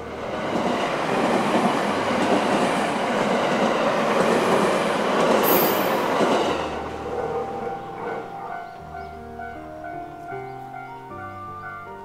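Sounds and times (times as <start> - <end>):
train wheels rumbling on rails: 0.0 - 10.4.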